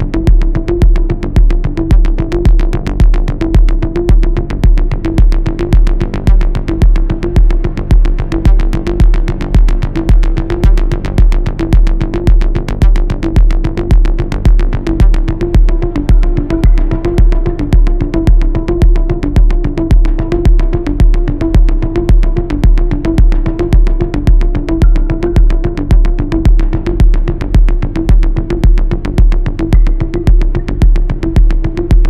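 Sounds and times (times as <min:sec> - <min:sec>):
deep bass: 0:00.0 - 0:32.0
drum machine kick: 0:00.0 - 0:32.0
sustained synthesizer tones: 0:00.0 - 0:32.0
hi-hat ticks: 0:00.3 - 0:32.0.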